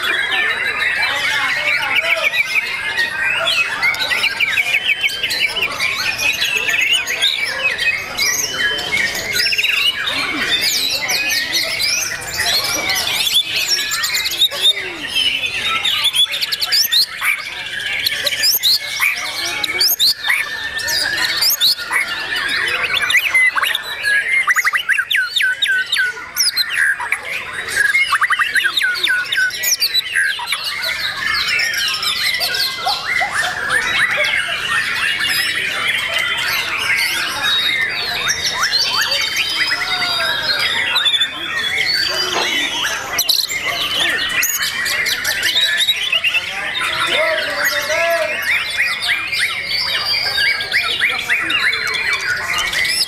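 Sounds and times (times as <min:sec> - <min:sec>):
birds singing whistles and trills: 0:00.0 - 0:53.0.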